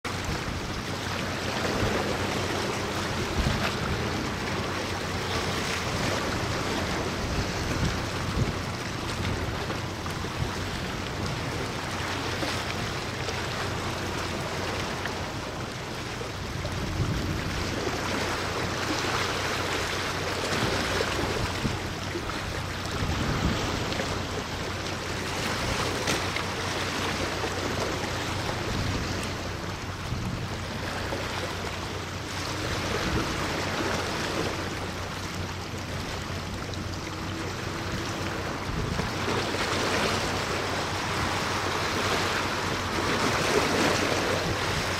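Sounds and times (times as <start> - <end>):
sea water rushing: 0.0 - 44.9.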